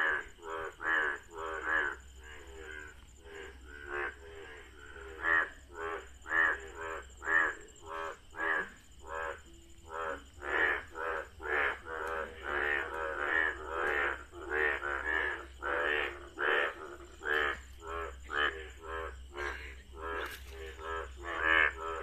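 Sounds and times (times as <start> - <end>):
frogs croaking in chorus: 0.0 - 22.0.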